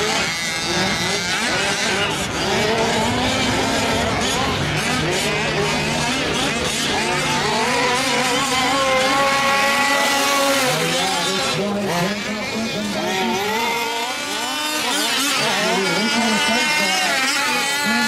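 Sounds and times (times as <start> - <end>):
small two-stroke engines buzzing: 0.0 - 18.0.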